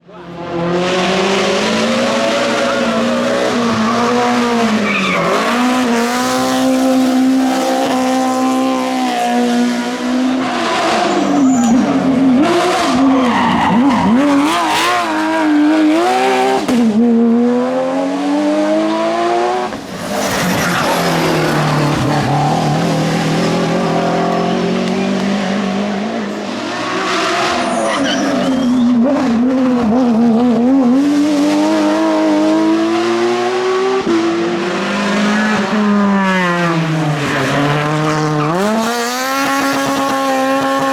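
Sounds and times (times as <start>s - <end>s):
race car engines at full throttle: 0.0s - 40.9s.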